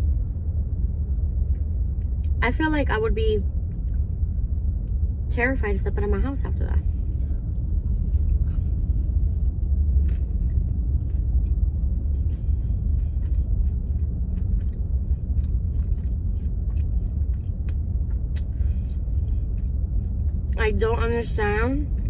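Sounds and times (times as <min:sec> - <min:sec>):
car idling rumble inside cabin: 0:00.0 - 0:22.0.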